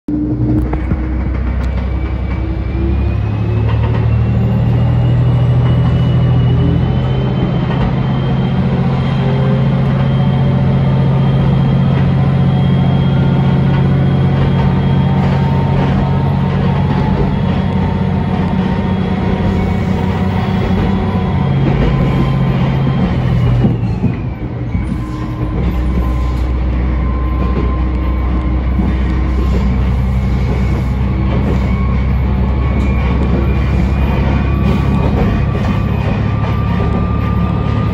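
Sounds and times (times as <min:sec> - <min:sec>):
diesel railcar engine under load: 0:00.1 - 0:37.9
wheels rumbling on rails: 0:00.1 - 0:37.9.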